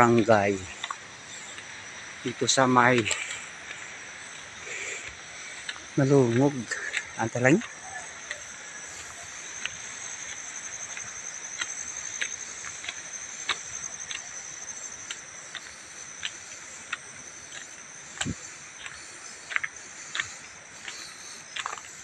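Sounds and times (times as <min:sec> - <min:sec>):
footsteps on gravel: 0:00.0 - 0:22.0
insect chorus: 0:00.0 - 0:22.0.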